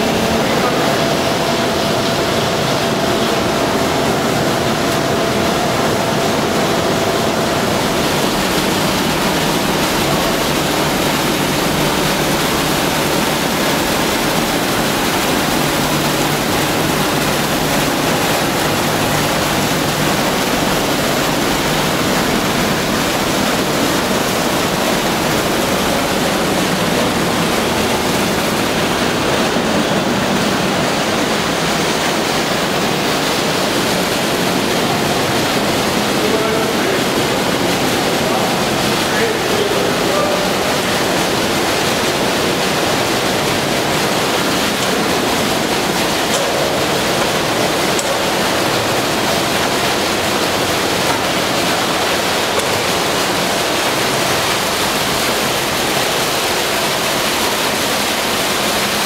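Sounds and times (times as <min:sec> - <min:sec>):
water pouring from hose splashing: 0:00.0 - 0:59.0.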